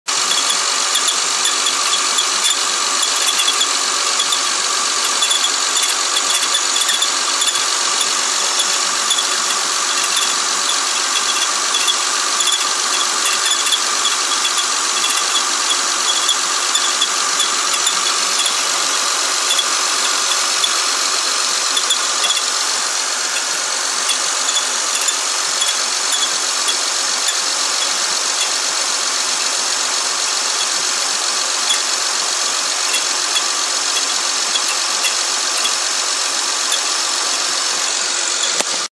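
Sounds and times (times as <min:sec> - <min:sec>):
car engine running: 0:00.0 - 0:38.9
rapid ticking from engine: 0:00.0 - 0:38.9.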